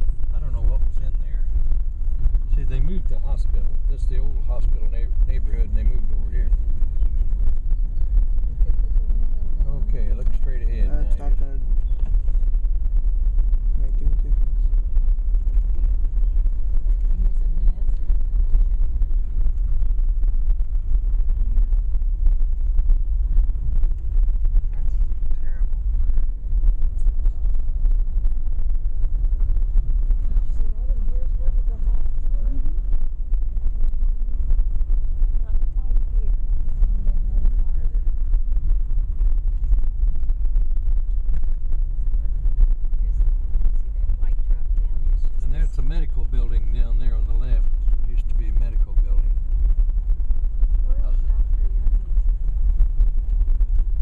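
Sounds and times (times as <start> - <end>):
car driving rumble: 0.0 - 54.0
microphone crackling: 0.0 - 54.0.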